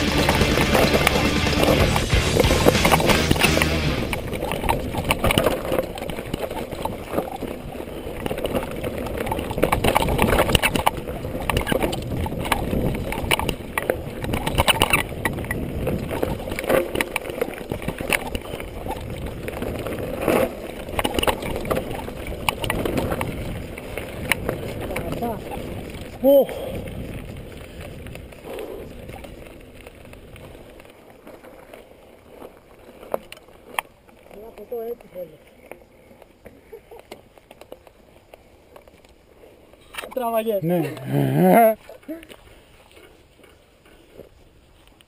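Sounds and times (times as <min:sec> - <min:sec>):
mountain bike rattling: 0:00.0 - 0:45.0
tyres crunching over stones: 0:00.0 - 0:45.0.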